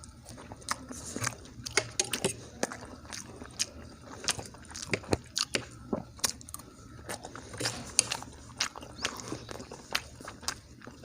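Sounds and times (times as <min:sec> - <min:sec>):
person chewing soft food: 0:00.0 - 0:11.0.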